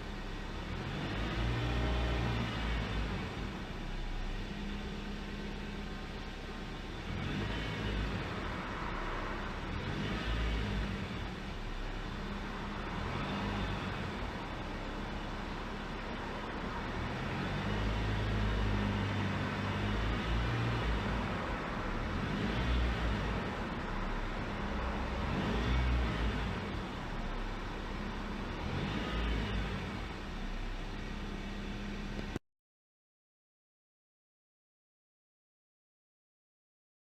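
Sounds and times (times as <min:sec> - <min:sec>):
car engine hum: 0:00.0 - 0:32.4.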